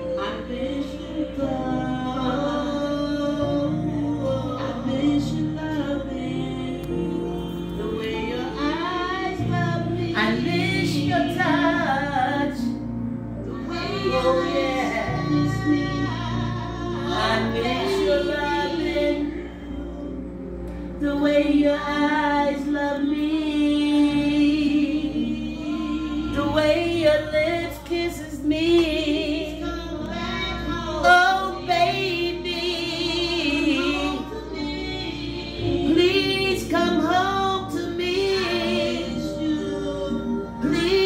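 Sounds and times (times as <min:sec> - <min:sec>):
woman singing with vibrato: 0:00.0 - 0:12.9, 0:13.5 - 0:41.0.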